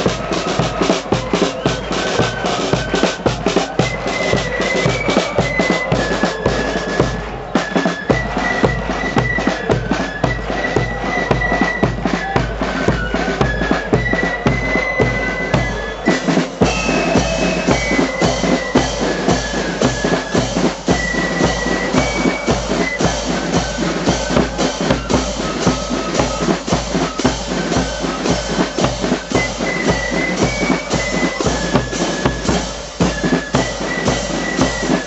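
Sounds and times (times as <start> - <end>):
bass drum and snare drums: 0.0 - 35.0
marching band playing: 0.0 - 35.0.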